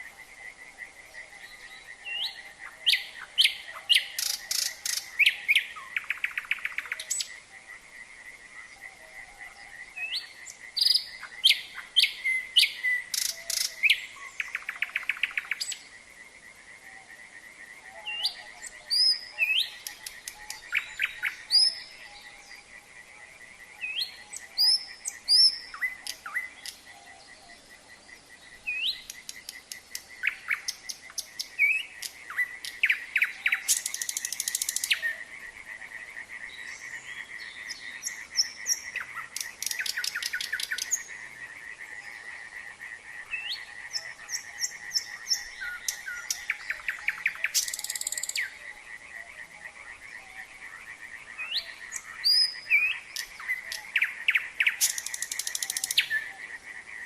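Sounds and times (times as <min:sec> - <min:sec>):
nightingale singing: 0:00.0 - 0:16.0, 0:16.8 - 0:57.0
frogs trilling: 0:00.0 - 0:57.0.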